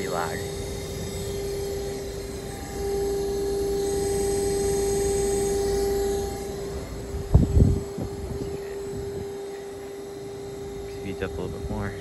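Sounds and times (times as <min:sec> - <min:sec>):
heat pump fan rushing and humming: 0:00.0 - 0:12.0.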